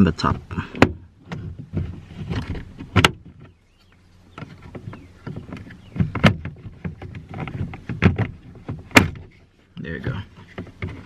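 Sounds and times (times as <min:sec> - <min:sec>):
plastic clicks scrapes and knocks: 0:00.7 - 0:11.0.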